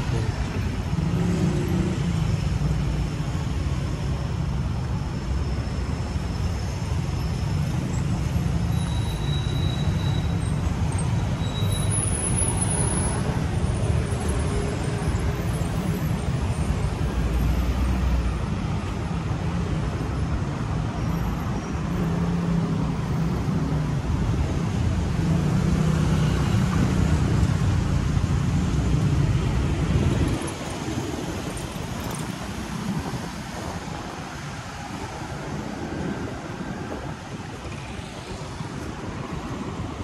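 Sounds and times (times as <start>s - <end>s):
street traffic noise: 0.0s - 40.0s.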